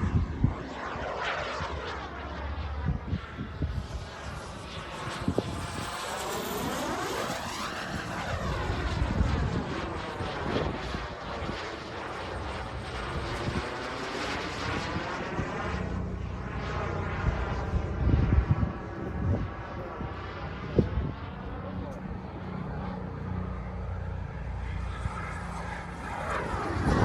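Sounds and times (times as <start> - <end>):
jet turbine passing: 0.0 - 27.0.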